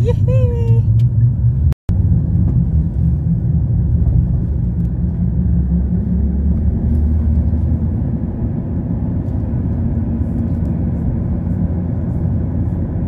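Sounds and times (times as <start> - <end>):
car interior engine and road rumble: 0.0 - 13.0.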